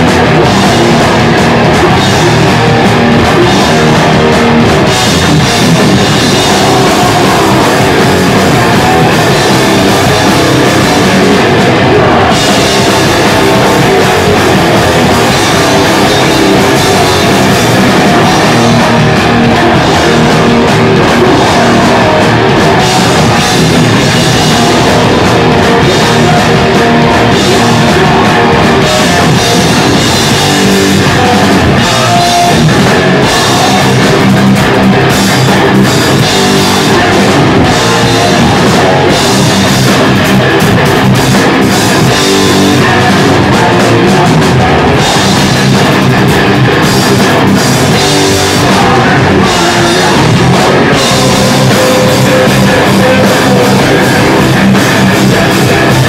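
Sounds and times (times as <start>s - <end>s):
live heavy rock band: 0.0s - 56.0s.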